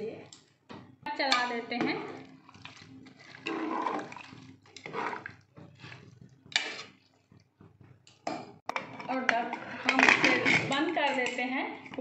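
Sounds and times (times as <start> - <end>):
spoon stirring in a pressure cooker: 1.1 - 12.0.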